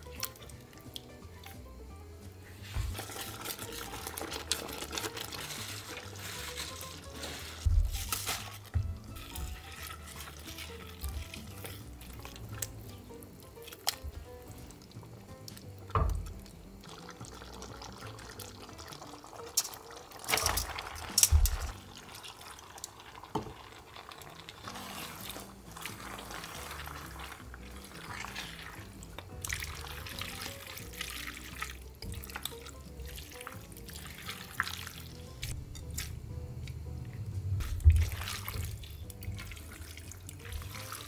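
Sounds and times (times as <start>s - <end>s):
pasta squishing in sauce: 2.6s - 15.9s, 16.8s - 36.1s, 37.6s - 41.0s.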